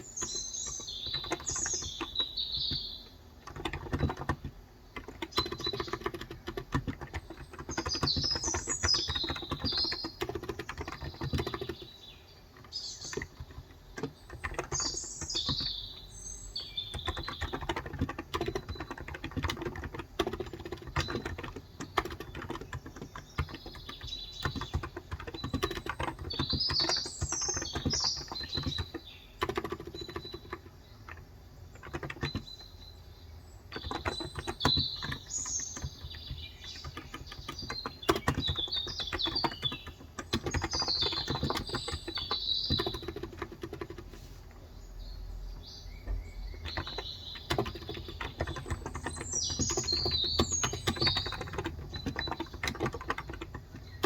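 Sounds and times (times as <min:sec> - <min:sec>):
typing on a keyboard: 0:00.0 - 0:33.0, 0:33.6 - 0:44.3, 0:45.5 - 0:54.0
birds chirping: 0:00.0 - 0:54.0.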